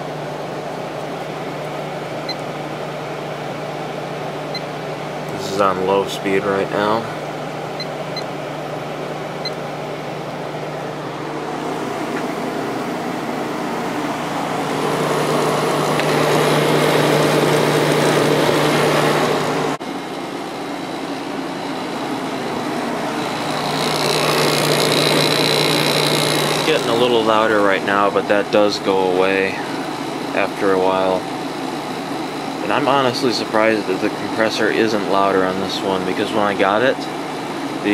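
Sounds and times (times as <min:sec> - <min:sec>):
air conditioner hum: 0:00.0 - 0:37.9.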